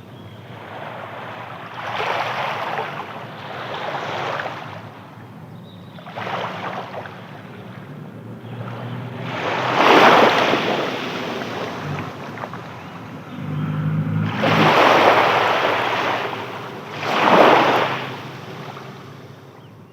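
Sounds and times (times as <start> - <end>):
sea waves breaking: 0.0 - 19.9.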